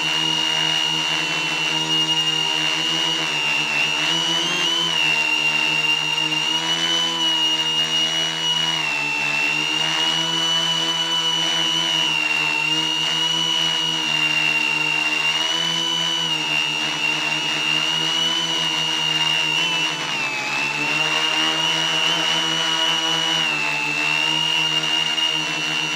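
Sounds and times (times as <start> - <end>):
quadcopter propellers whining: 0.0 - 25.9.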